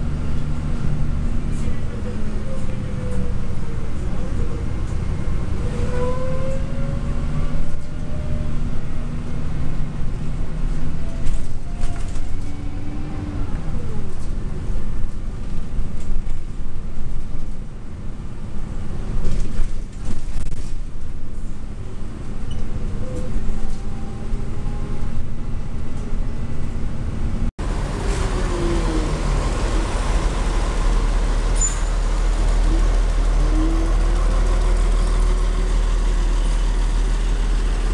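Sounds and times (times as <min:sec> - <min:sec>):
bus engine running: 0:00.0 - 0:37.9.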